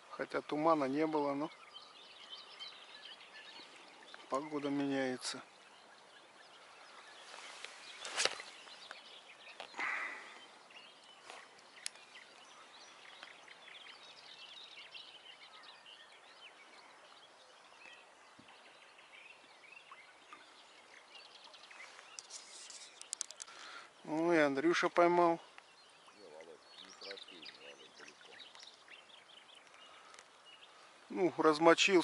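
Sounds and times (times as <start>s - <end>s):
songbirds chirping and singing: 0.0s - 32.0s.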